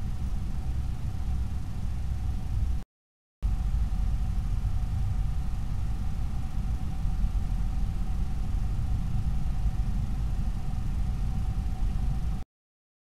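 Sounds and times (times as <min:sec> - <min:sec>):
low rumbling noise: 0:00.0 - 0:02.8, 0:03.4 - 0:12.4.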